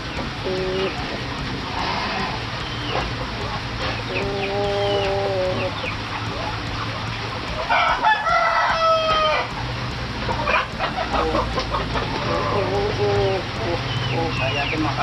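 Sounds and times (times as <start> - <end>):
roosters crowing: 0.0 - 15.0
steady low hum: 0.0 - 15.0.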